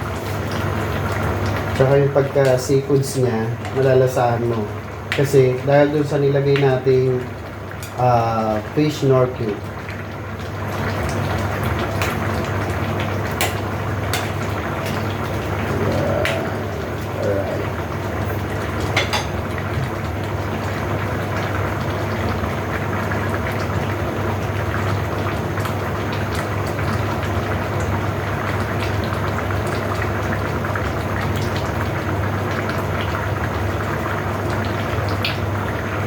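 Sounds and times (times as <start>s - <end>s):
stew simmering and bubbling: 0.0s - 36.0s.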